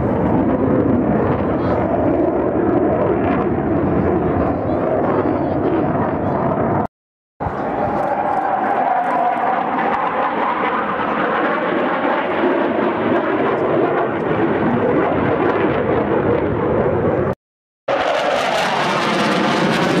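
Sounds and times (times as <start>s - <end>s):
jet roaring overhead: 0.0s - 20.0s.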